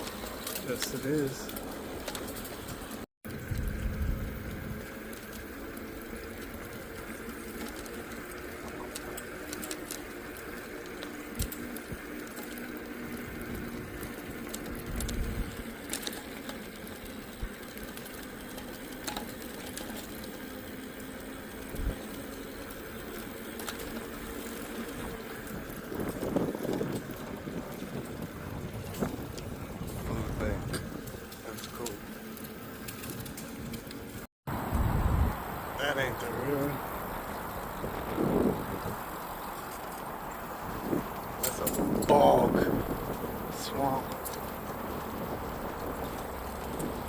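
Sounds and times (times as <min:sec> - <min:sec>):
small clicks and rattles: 0:00.0 - 0:04.0, 0:04.8 - 0:34.3, 0:35.9 - 0:47.0
bicycle tyres and drivetrain hum: 0:00.0 - 0:47.0.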